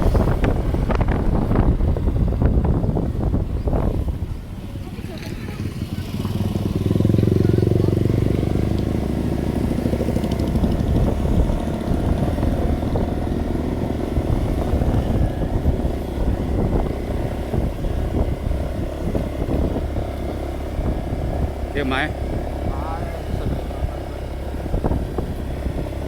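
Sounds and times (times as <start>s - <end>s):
motorcycle engine: 0.0s - 26.0s
wind rumble on microphone: 0.0s - 26.0s.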